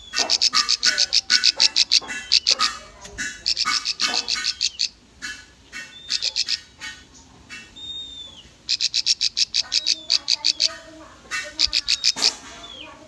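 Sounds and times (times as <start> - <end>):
bird chipping song: 0.0 - 13.0.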